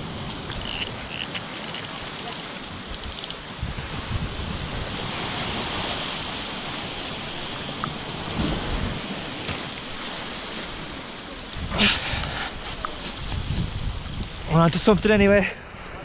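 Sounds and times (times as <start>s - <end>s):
wind buffeting microphone: 0.0s - 16.0s
surf breaking over rocks: 2.1s - 16.0s.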